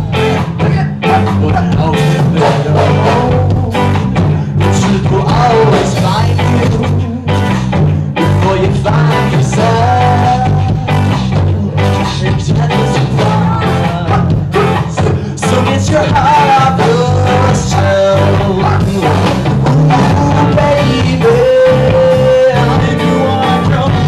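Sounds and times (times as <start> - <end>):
drums: 0.0 - 24.0
electric guitar: 0.0 - 24.0
person singing: 0.0 - 24.0.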